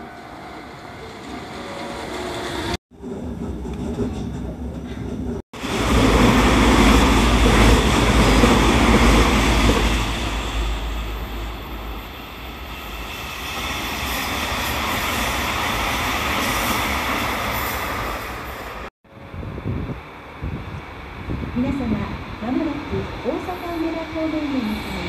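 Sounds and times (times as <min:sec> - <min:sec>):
train wheels rumbling on rails: 0:01.0 - 0:25.0.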